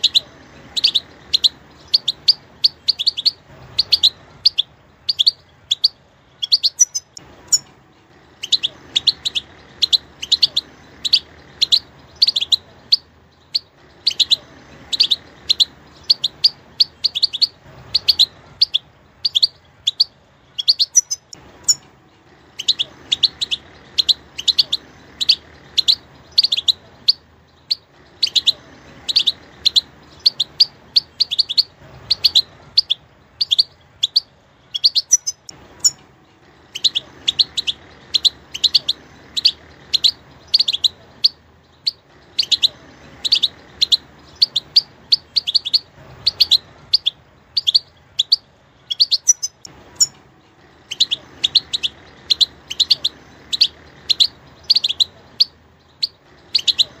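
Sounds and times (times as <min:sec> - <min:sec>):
bird chirping: 0:00.0 - 0:57.0.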